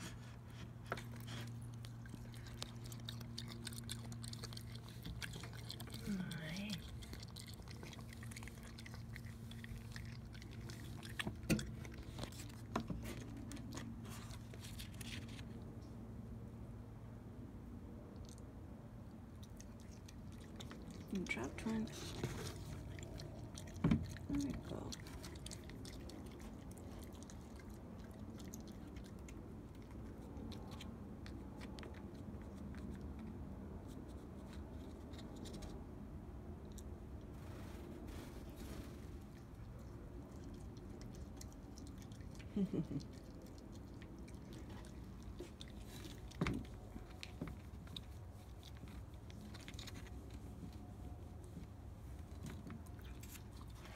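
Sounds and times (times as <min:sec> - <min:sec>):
raccoon chewing: 0:00.0 - 0:16.4, 0:17.0 - 0:37.3, 0:38.6 - 0:53.9.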